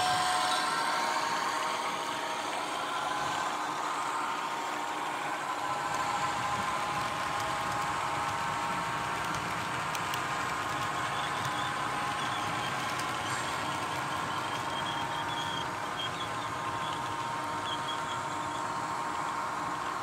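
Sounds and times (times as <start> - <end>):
model train cars rolling: 0.0 - 20.0.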